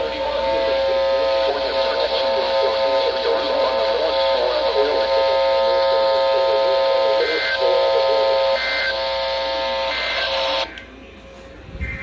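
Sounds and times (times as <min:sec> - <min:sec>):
weather radio buzzing alert tone: 0:00.0 - 0:10.7.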